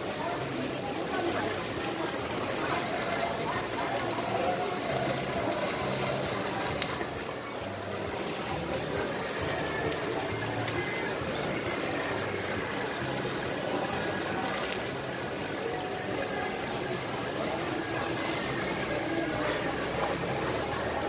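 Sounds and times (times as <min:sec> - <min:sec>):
busy market din: 0:00.0 - 0:21.0.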